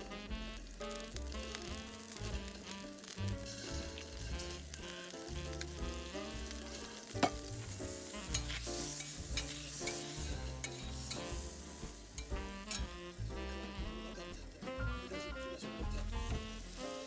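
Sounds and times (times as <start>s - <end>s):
background music: 0.0s - 17.0s
food sizzling on griddle: 0.0s - 17.0s.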